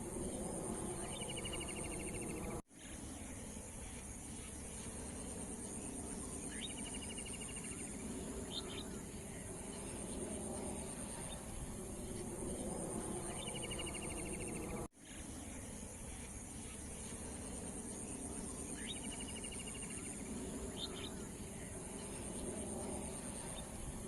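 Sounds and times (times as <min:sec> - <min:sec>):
low background rumble: 0:00.0 - 0:24.0
pulsing insect chorus: 0:00.0 - 0:24.0.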